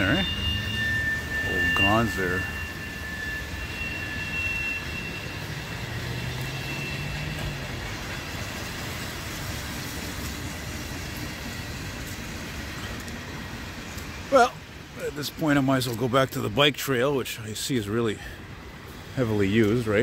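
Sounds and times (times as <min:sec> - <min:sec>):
freight cars rumbling: 0:00.0 - 0:20.0
wheels squealing: 0:00.0 - 0:20.0.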